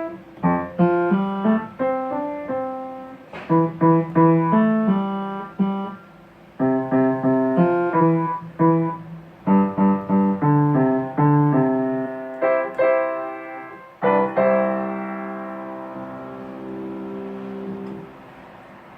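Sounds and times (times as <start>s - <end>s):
piano melody: 0.0s - 18.9s.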